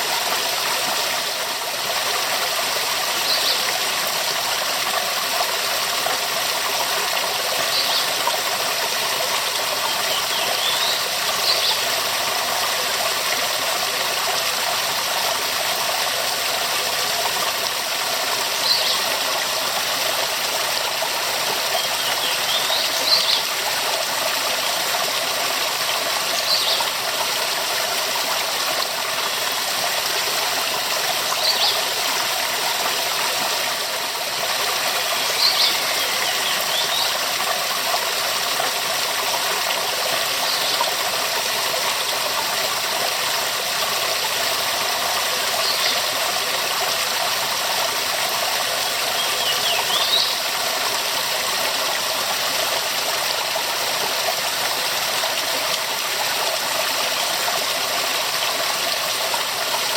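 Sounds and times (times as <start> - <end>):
waterfall rushing: 7.3 - 59.9.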